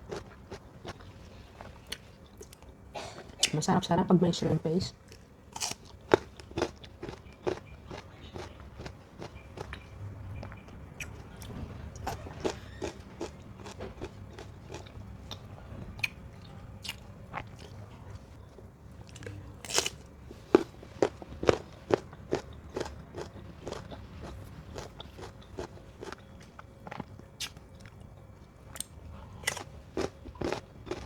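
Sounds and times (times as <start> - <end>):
crunching and chewing fruit: 0.0 - 3.5, 4.9 - 31.0.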